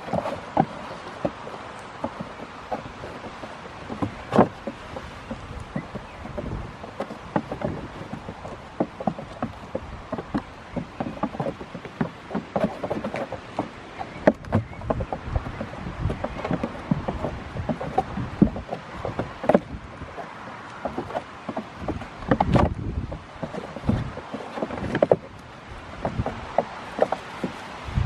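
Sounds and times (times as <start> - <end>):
hooves clattering on wooden boards: 0.0 - 28.0.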